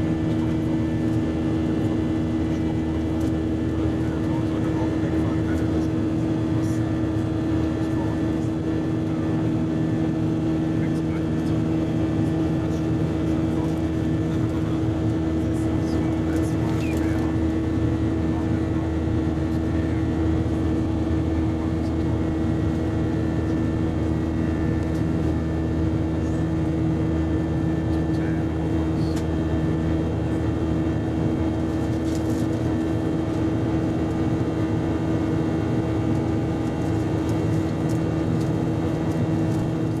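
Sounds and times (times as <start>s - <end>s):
airliner cabin drone: 0.0s - 40.0s.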